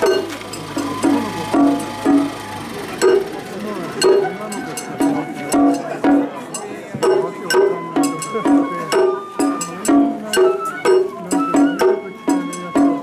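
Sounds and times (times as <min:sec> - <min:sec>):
bamboo flute playing: 0:00.0 - 0:13.0
drums and percussion strokes: 0:00.0 - 0:13.0.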